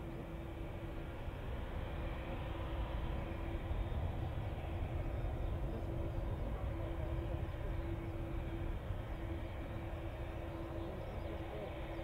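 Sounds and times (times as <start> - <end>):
jet engines rumbling at idle: 0.0 - 12.0.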